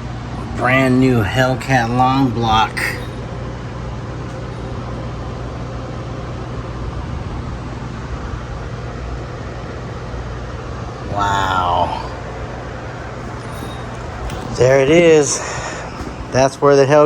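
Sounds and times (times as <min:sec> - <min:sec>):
mechanical background hum: 0:00.0 - 0:17.0.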